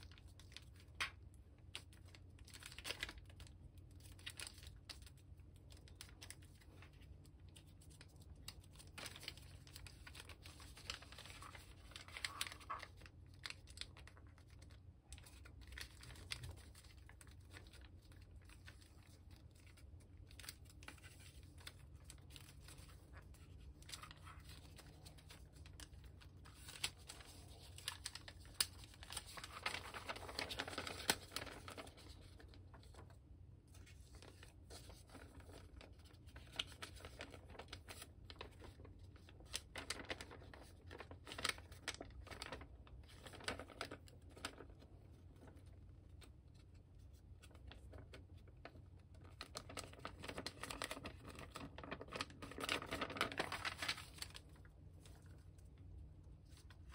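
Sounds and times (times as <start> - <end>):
paper rustling and crinkling: 0.0 - 56.9.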